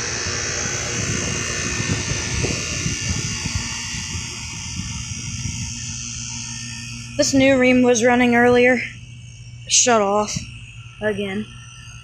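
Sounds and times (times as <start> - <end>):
air conditioner fan noise: 0.0 - 12.0
compressor electrical hum and buzz: 0.0 - 12.0.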